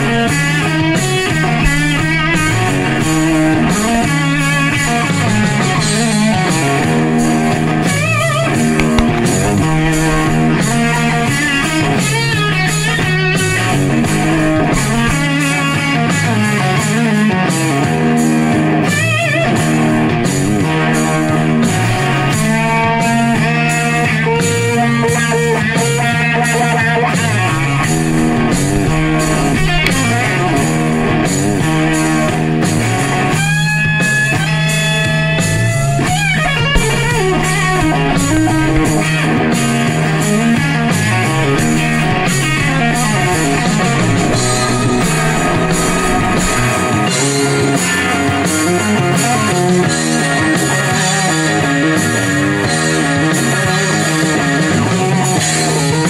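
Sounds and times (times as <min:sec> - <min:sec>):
guitar instrumental music: 0:00.0 - 0:56.0.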